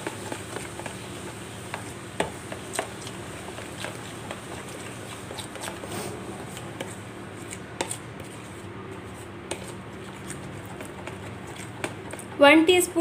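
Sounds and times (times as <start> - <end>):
spoon scraping wet paste: 0.0 - 12.4.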